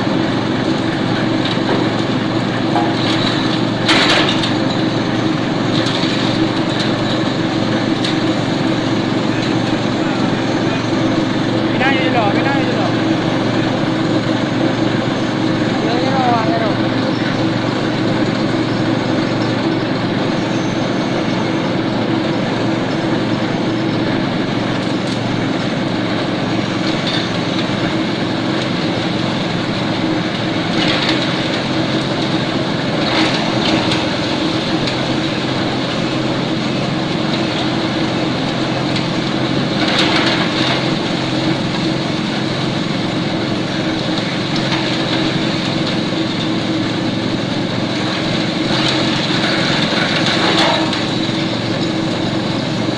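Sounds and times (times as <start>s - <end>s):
compost shredder chopping branches: 0.0s - 52.9s.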